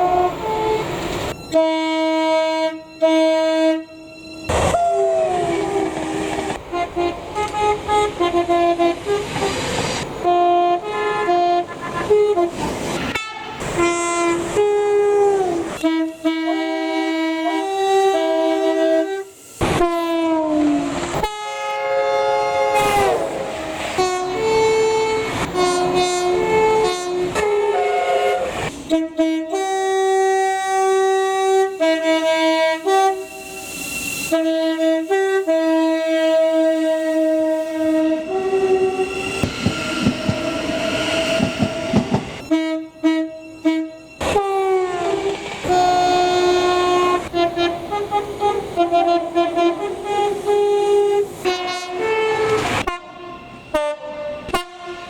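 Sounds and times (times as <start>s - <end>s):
passing train noise: 0.0s - 55.0s
two-tone train horns: 0.0s - 55.0s.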